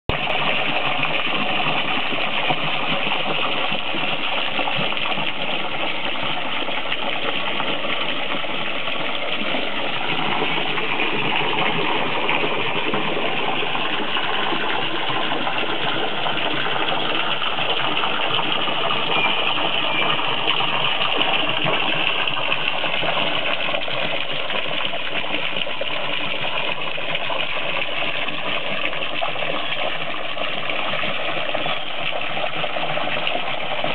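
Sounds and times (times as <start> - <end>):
hose jet splashing into water: 0.1 - 33.9.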